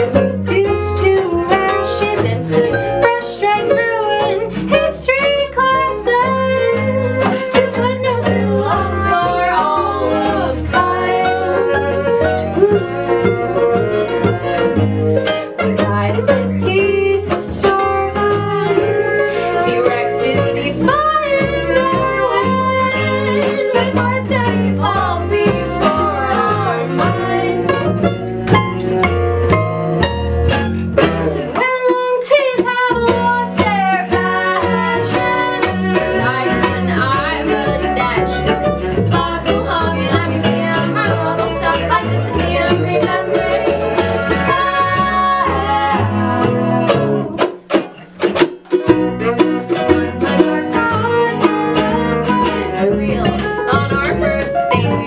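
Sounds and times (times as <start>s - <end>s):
woman singing: 0.0s - 14.0s, 15.6s - 28.1s, 31.5s - 47.4s, 50.0s - 55.0s
strummed ukuleles: 0.0s - 55.0s
upright double bass: 0.0s - 55.0s
violin: 0.0s - 55.0s.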